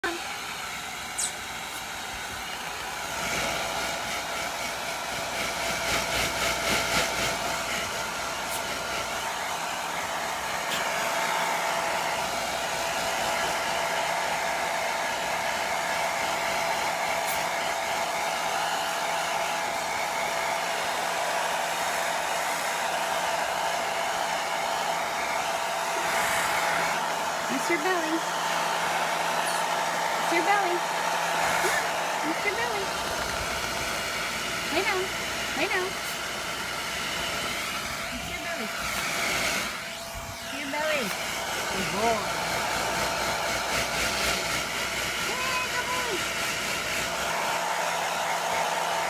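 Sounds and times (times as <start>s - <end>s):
pet grooming blower running: 0.0s - 49.0s.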